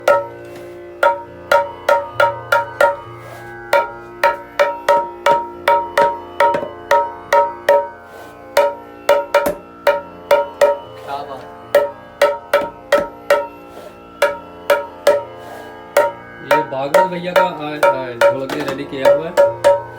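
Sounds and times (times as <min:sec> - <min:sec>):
hand drum strokes ringing: 0:00.0 - 0:19.9.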